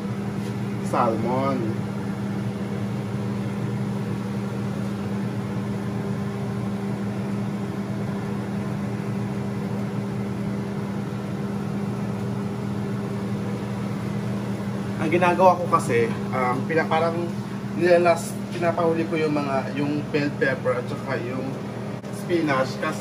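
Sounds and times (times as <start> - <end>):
fan motor humming: 0.0 - 23.0.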